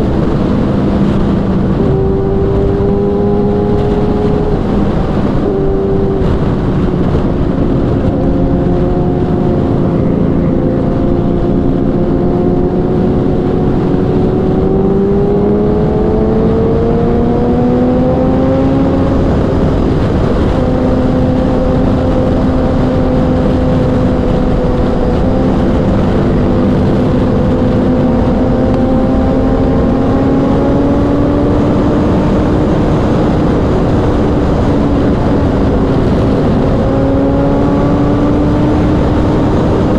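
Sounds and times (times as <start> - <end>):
heavy wind rush: 0.0 - 39.9
motorcycle engine accelerating: 0.0 - 39.9.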